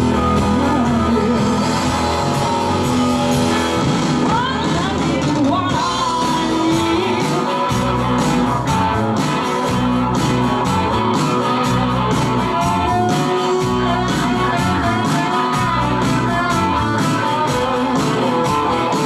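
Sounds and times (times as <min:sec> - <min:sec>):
bass guitar: 0:00.0 - 0:19.0
drums keeping a steady beat: 0:00.0 - 0:19.0
electric guitars: 0:00.0 - 0:19.0
keyboards: 0:00.0 - 0:19.0.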